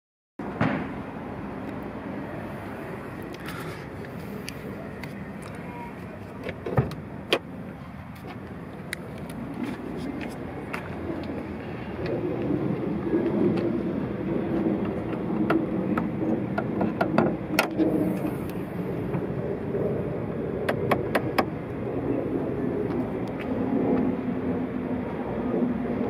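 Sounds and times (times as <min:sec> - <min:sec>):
outdoor background noise: 0:00.4 - 0:26.0.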